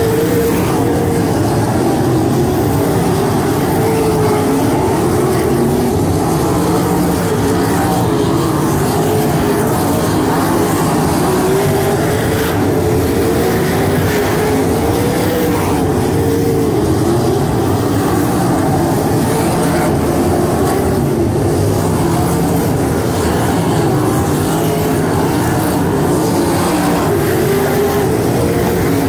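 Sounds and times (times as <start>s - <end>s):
race car engines roaring: 0.0s - 29.0s.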